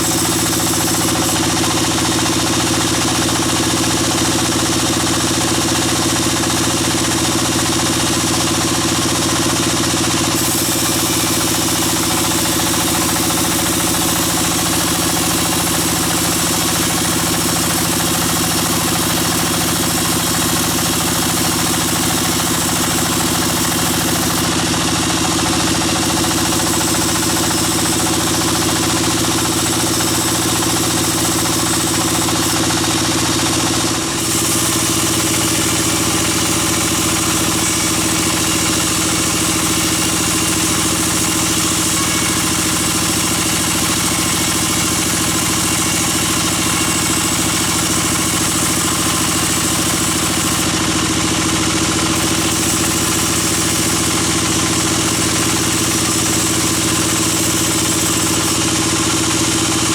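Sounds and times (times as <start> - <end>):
bandsaw motor running: 0.0 - 59.9.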